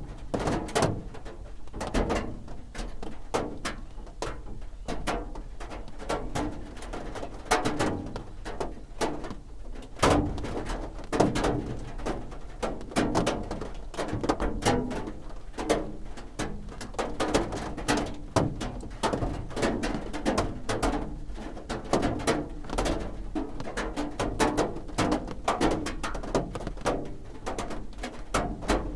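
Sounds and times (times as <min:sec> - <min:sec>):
rain drumming on roof: 0:00.0 - 0:28.9.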